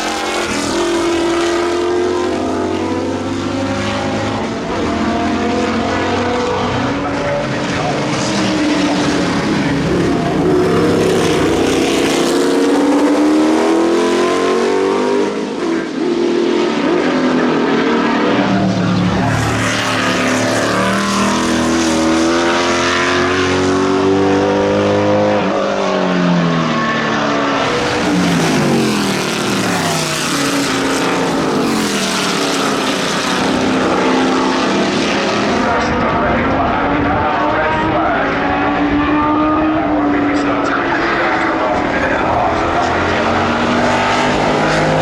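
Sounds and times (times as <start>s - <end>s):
racing car engine running hard: 0.0s - 45.0s.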